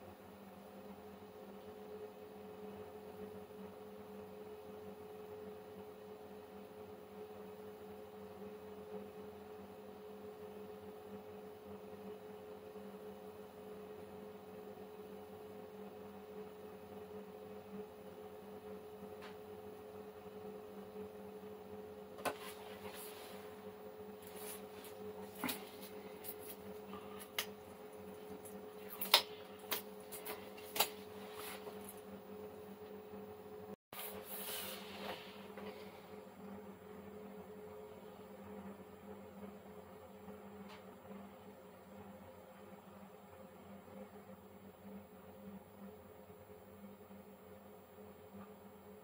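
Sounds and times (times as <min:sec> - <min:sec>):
electrical hum with fixed tones: 0:00.0 - 0:49.0.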